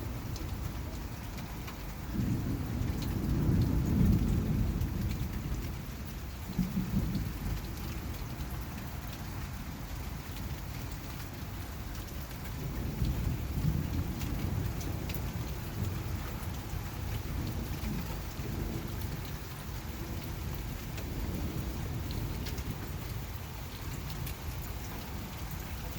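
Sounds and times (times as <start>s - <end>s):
low rumbles of thunder: 0.0s - 9.8s, 12.1s - 25.9s
steady rain falling: 0.0s - 25.9s.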